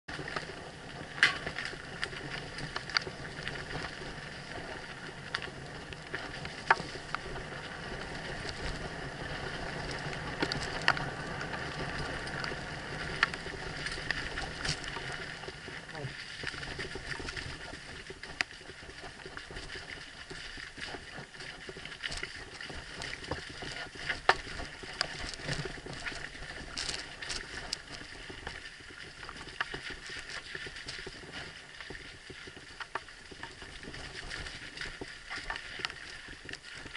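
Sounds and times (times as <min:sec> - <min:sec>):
bike rattling over bumps: 0:00.1 - 0:35.6
tyre and wind noise: 0:00.1 - 0:36.9.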